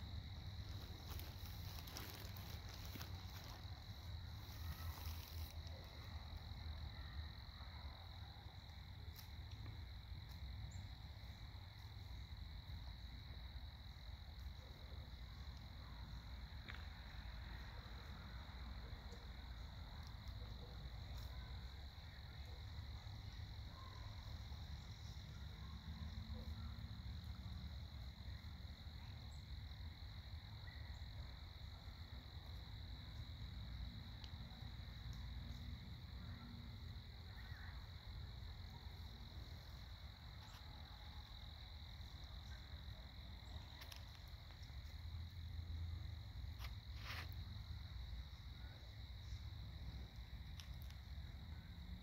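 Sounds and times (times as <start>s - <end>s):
constant low rumble: 0.0s - 52.0s
high insect chorus trill: 0.0s - 52.0s.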